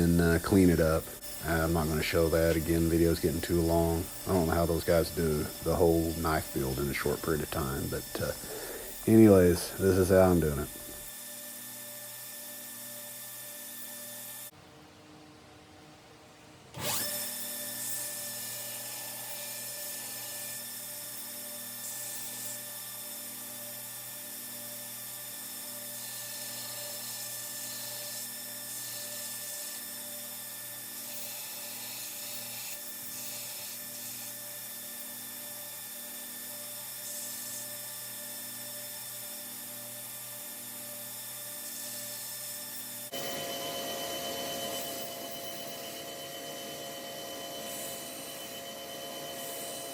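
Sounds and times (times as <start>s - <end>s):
belt grinder grinding: 0.0s - 14.5s, 16.8s - 49.9s.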